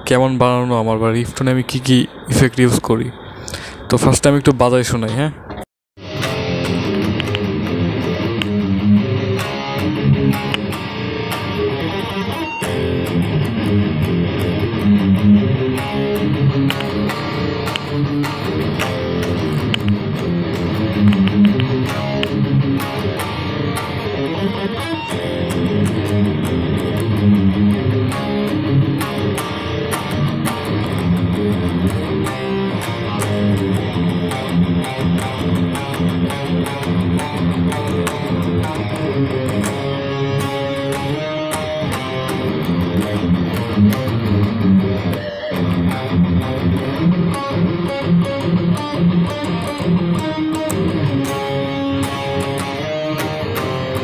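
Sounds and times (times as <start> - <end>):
electric guitar riffs: 5.4 - 54.0.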